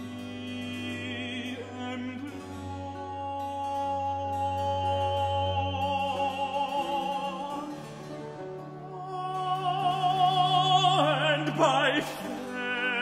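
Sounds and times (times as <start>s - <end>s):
lute: 0.0s - 13.0s
tenor singing with vibrato: 0.0s - 13.0s.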